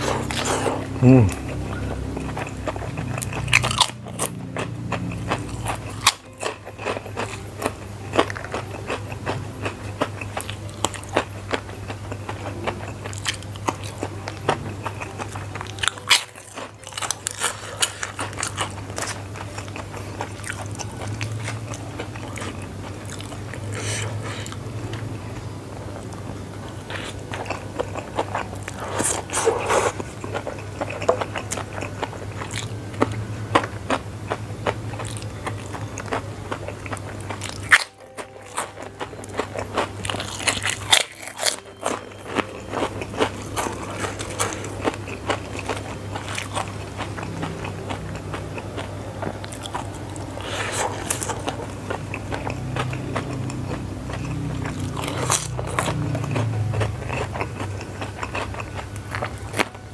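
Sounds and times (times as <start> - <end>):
chewing and biting mouth sounds: 0.0 - 59.9.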